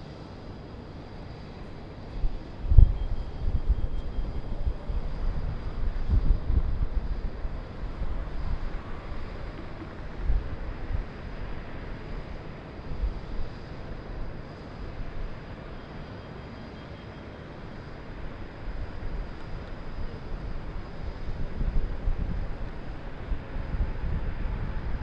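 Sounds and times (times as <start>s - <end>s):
distant traffic noise: 0.0s - 25.0s
wind buffeting microphone: 1.6s - 15.7s, 18.0s - 25.0s.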